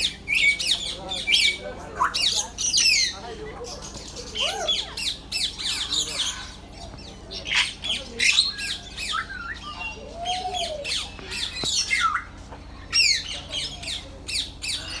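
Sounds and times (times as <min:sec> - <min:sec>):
parrots squawking and chirping: 0:00.0 - 0:15.0.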